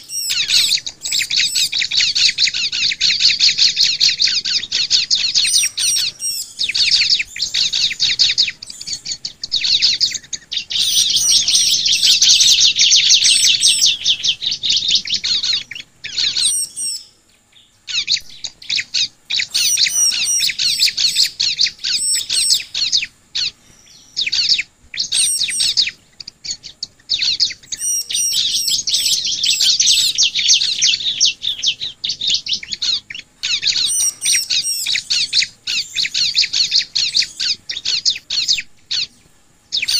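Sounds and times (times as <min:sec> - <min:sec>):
birds chattering chirps: 0:00.0 - 0:39.9.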